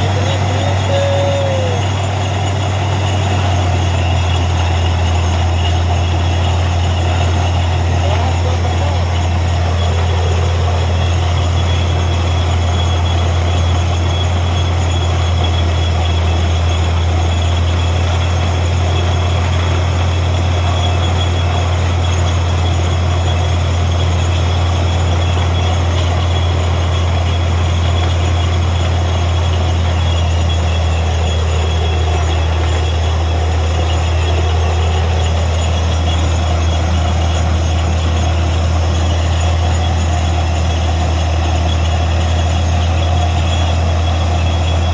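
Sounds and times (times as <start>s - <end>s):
drilling rig drone: 0.0s - 44.9s.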